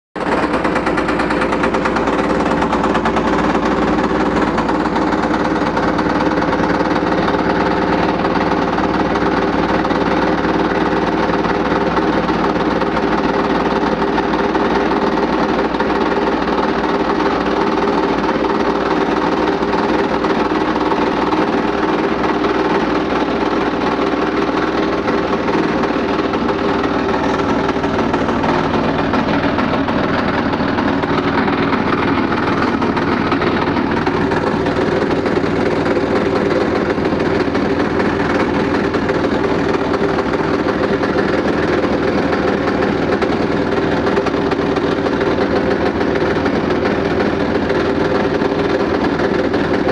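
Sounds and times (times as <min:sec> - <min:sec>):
washing machine running: 0:00.2 - 0:49.9.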